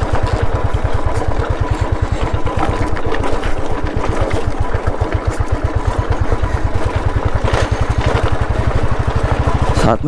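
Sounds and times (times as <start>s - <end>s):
motorcycle engine running: 0.0s - 10.0s
tyres over loose pebbles: 0.0s - 10.0s.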